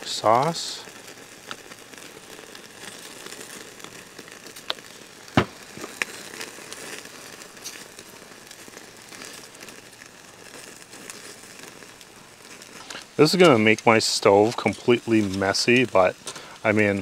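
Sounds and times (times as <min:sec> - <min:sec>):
fish sizzling on a grill: 0:00.0 - 0:17.0.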